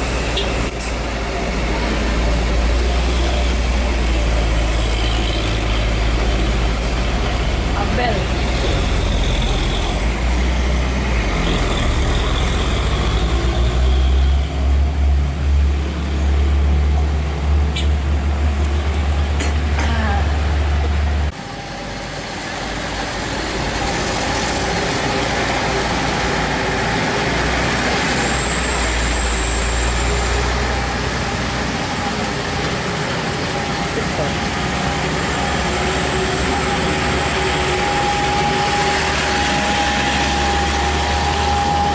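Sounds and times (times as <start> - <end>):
diesel truck engine rumbling: 0.0 - 41.9
traffic on wet road: 0.0 - 41.9.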